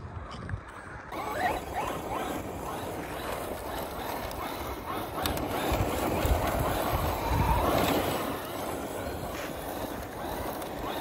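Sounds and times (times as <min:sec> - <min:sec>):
electric motor whirring: 0:01.1 - 0:11.0
tyres scrabbling on dirt: 0:01.1 - 0:11.0.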